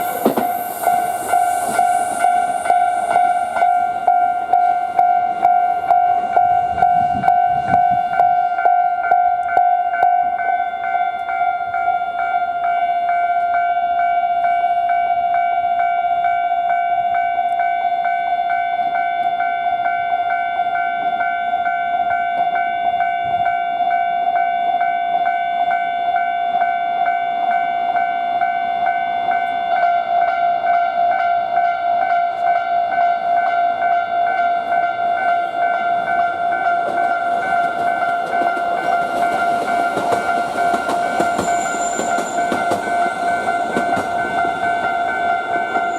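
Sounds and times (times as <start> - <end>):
approaching train: 0.0 - 45.9
level-crossing warning bell: 0.0 - 45.9
lower warning bell: 0.0 - 45.9.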